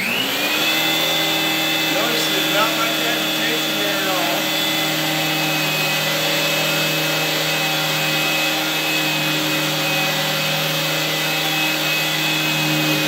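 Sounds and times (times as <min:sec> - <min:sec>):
vacuum cleaner motor whine: 0:00.0 - 0:13.0.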